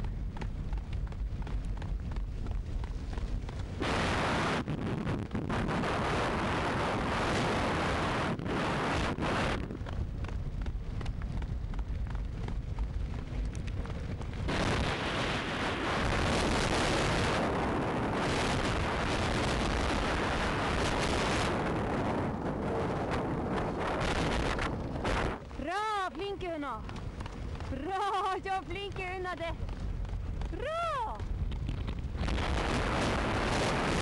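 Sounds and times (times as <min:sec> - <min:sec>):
wheels rolling on asphalt: 0:00.0 - 0:34.0
wind buffeting microphone: 0:00.0 - 0:34.0.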